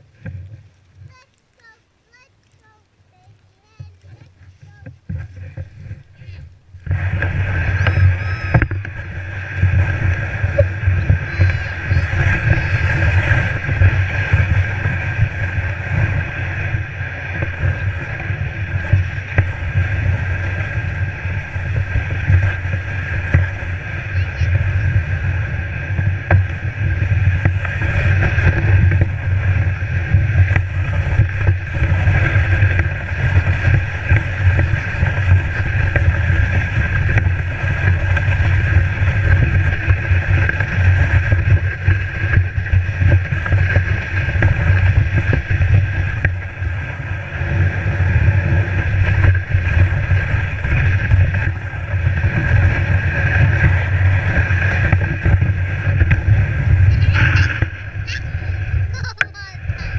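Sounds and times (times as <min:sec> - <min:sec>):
sled runners scraping on snow: 0:00.0 - 0:59.9
wind on microphone: 0:03.2 - 0:59.9.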